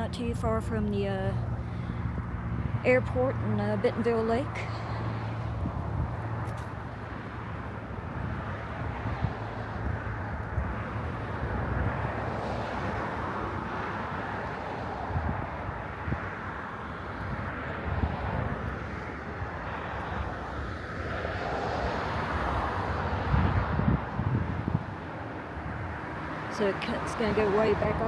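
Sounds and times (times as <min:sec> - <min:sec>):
airplane flying over: 0:00.0 - 0:28.0
wind buffeting microphone: 0:00.0 - 0:28.0.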